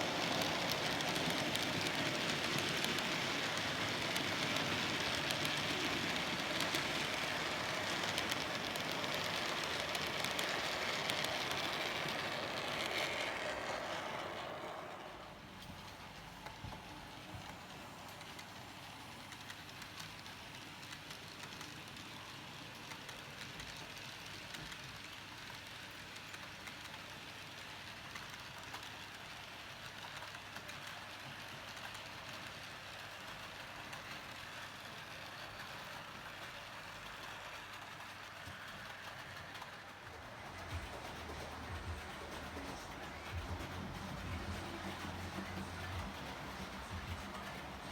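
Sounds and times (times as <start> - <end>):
model train wheels rattling: 0.0 - 47.9.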